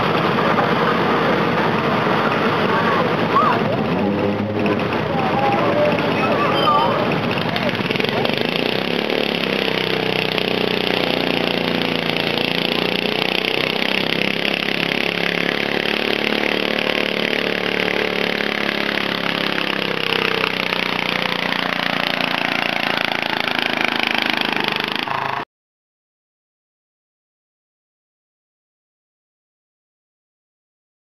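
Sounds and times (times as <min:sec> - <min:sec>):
tractor engine running hard: 0:00.0 - 0:25.4.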